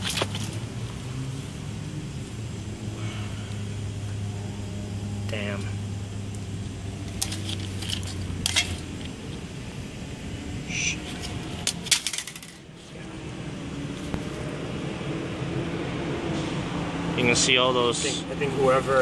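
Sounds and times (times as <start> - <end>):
low hum: 0.0 - 17.2.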